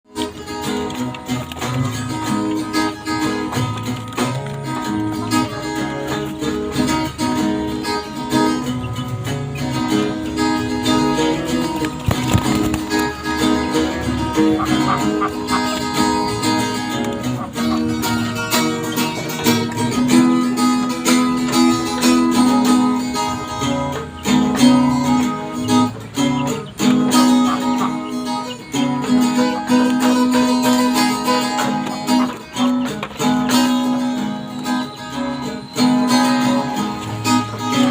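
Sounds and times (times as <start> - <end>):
plucked acoustic guitar music: 0.0 - 37.9.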